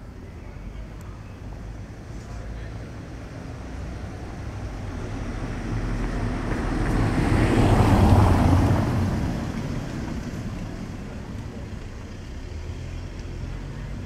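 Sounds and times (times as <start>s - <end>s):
vehicle engine hum passing: 0.4s - 14.0s.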